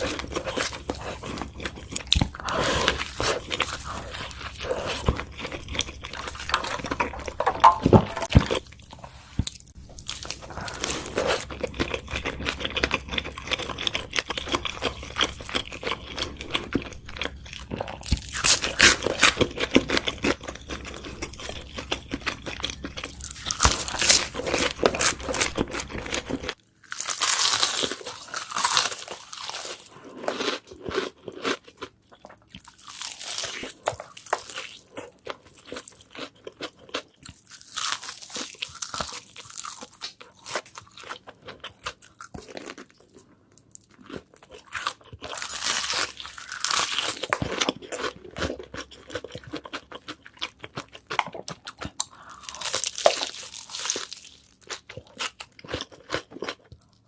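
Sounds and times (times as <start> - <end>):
crunching bites and chewing: 0.0 - 57.0
low background hum: 0.0 - 57.0.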